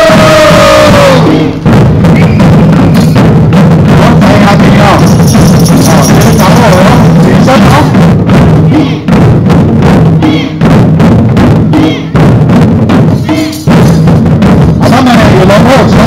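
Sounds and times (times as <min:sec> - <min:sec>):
barrel drums beaten fast: 0:00.0 - 0:16.0.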